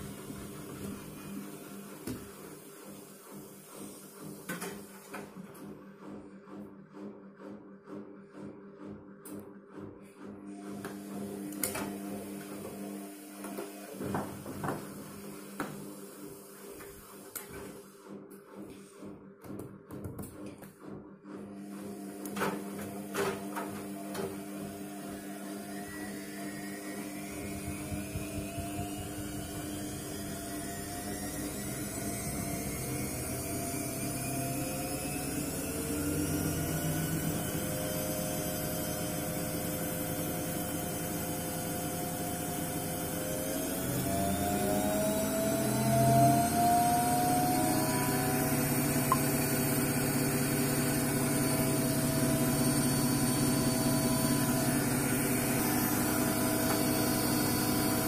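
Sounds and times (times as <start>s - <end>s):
washing machine drum humming: 0.0s - 58.0s.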